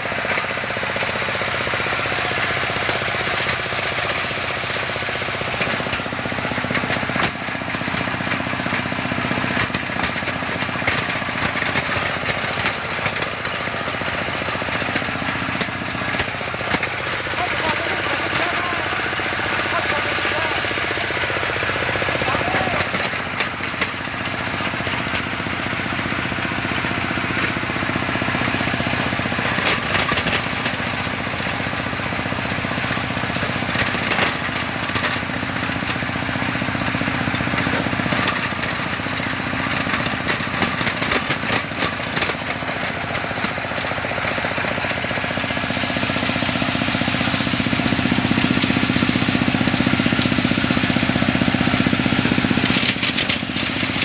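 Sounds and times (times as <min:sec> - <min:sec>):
engine hum: 0:00.0 - 0:54.0
stone crusher rattling clatter: 0:00.0 - 0:54.0.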